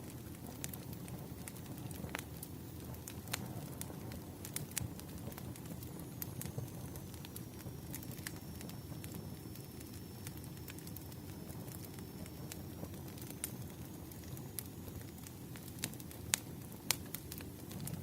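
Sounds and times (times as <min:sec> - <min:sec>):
burning wood crackling: 0:00.0 - 0:18.0
low rumble of flame: 0:00.0 - 0:18.0.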